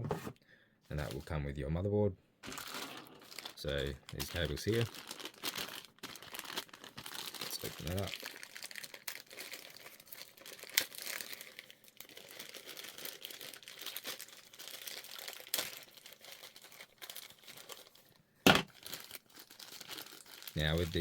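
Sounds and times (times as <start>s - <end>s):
plastic packaging crinkling: 2.4s - 21.0s.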